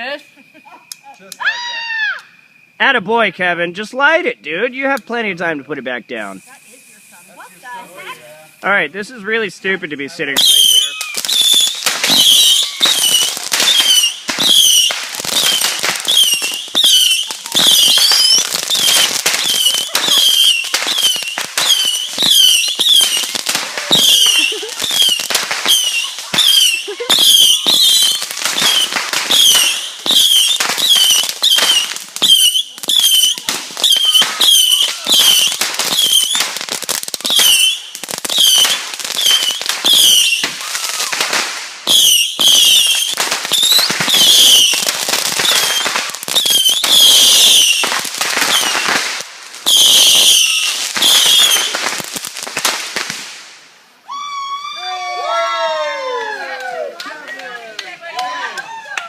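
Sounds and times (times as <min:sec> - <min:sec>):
fireworks whistling and cracking: 0:00.0 - 0:59.0.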